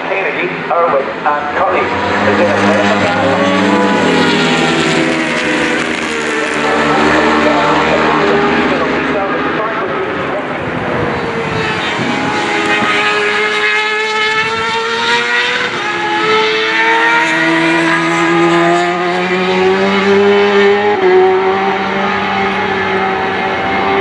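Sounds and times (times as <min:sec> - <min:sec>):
racing motorcycles revving: 0:00.0 - 0:24.0.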